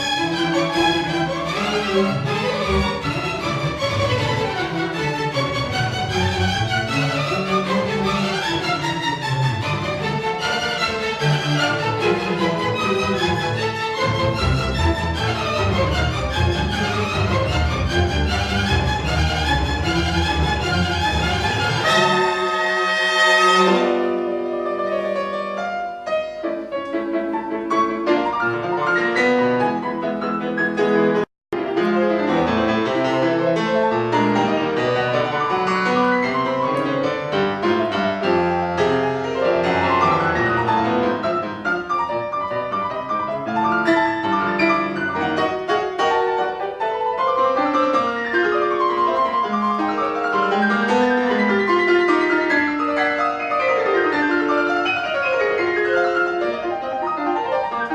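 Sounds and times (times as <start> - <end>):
fast classical piano passage: 0.0 - 57.9.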